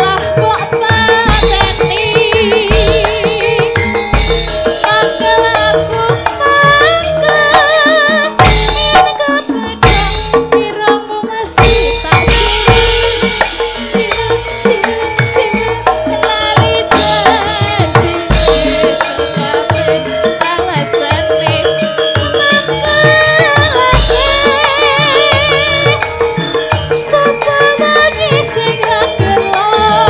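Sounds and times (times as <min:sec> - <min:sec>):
gamelan ensemble: 0:00.0 - 0:30.0
person singing with vibrato: 0:00.0 - 0:30.0.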